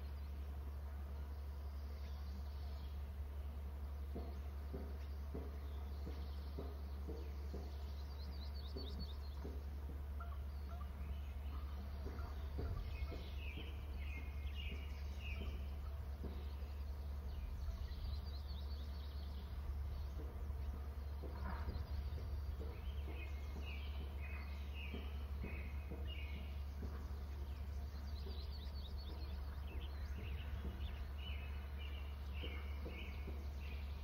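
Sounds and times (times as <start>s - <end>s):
small birds chirping: 0.0s - 34.0s
steady low hum: 0.0s - 34.0s.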